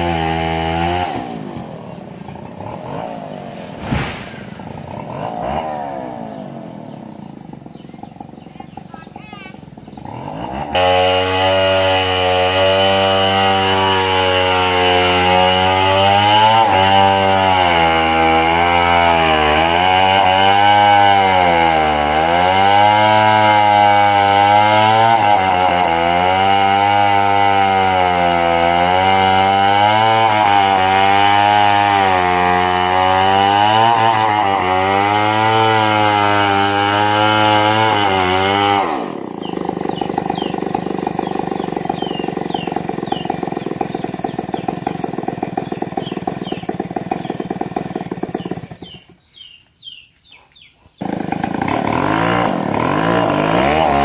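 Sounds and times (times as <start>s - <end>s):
chainsaw cutting wood: 0.0s - 1.7s, 9.8s - 50.1s, 51.0s - 54.0s.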